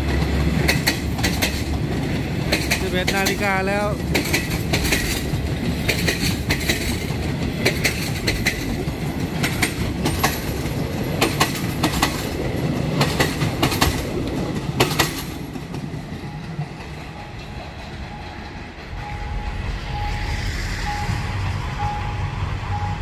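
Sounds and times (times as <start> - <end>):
train wheels clacking over rail joints: 0.0 - 20.0
train rumble: 0.0 - 23.0.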